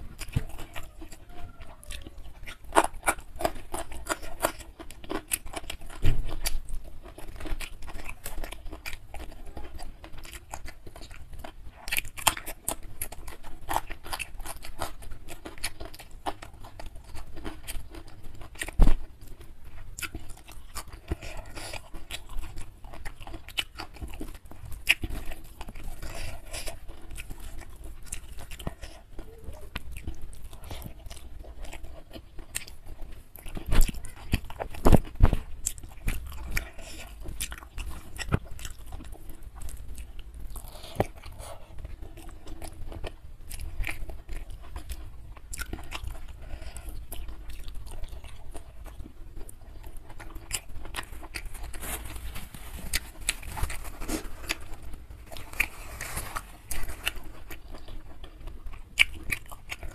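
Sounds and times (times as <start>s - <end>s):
chewing and wet mouth smacks: 1.9s - 59.9s.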